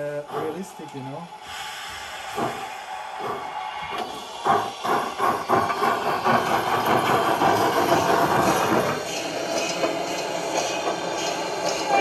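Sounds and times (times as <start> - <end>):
steam locomotive chuffs: 0.0 - 12.0.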